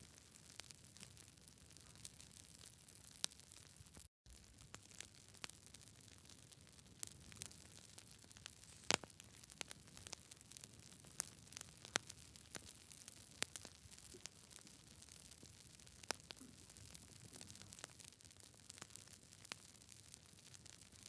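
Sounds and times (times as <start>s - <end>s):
campfire crackling and popping: 0.2s - 21.0s.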